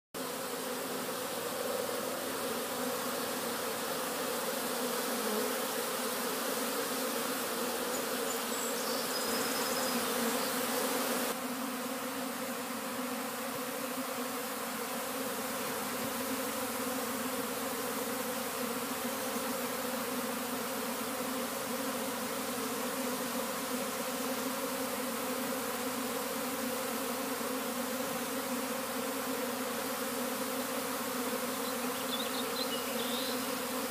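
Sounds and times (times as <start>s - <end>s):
bees buzzing: 0.2s - 33.9s.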